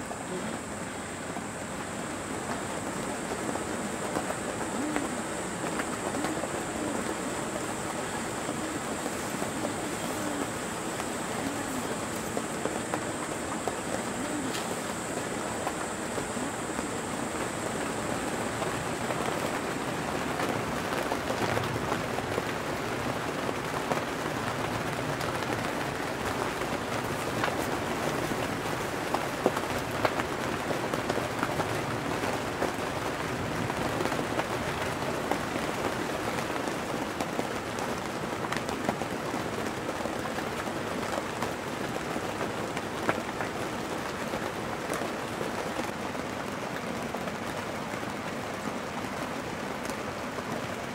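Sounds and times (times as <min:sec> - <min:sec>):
rain on a tent: 0:00.0 - 0:50.9.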